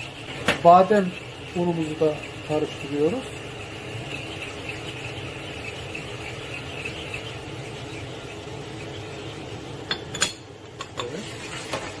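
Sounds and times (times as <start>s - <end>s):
wire whisk scraping saucepan: 0.0s - 12.0s.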